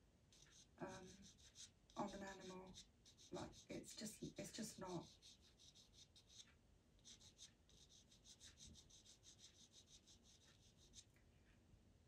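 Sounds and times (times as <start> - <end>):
pastel pencil stroking paper: 0.3 - 11.1.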